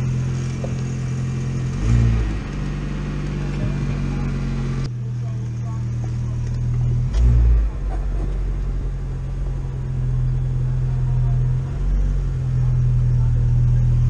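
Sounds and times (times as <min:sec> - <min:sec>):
engine drone from inside cab: 0:00.0 - 0:14.0.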